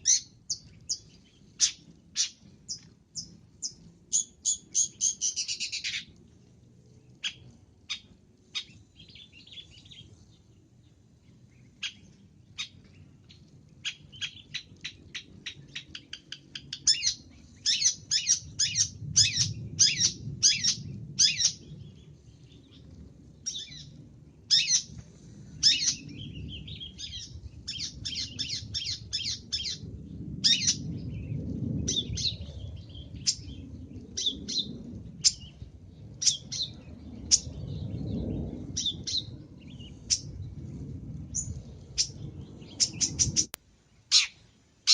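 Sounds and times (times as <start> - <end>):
low background rumble: 0.0 - 44.8.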